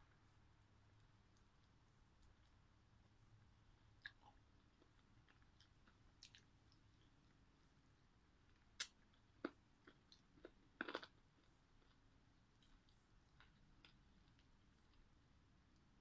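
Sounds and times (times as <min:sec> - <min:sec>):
faint chewing and gnawing: 0:00.0 - 0:16.0.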